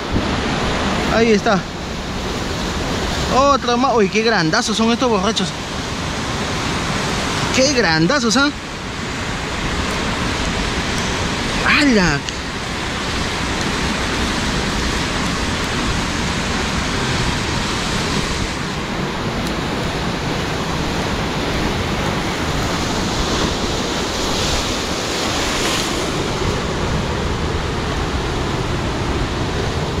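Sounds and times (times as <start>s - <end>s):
surf washing over rocks: 0.0s - 30.0s.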